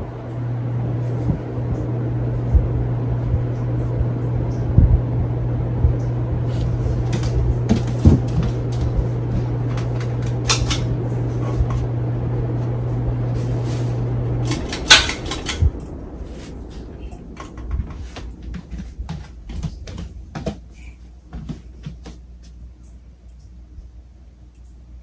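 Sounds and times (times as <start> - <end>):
ceiling fan motor humming: 0.0 - 25.0.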